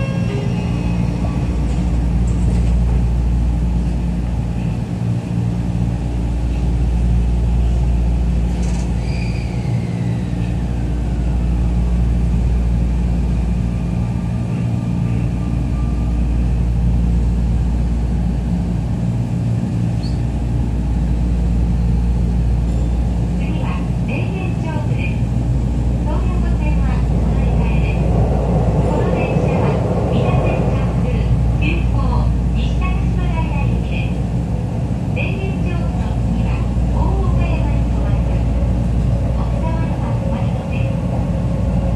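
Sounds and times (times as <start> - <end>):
train motors and wheels rumbling: 0.0 - 41.9.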